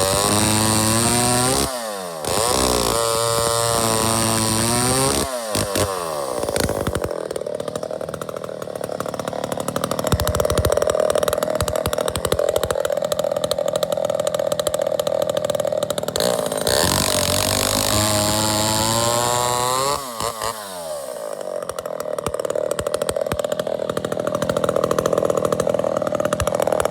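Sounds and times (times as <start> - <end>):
chainsaw engine revving: 0.0 - 26.9.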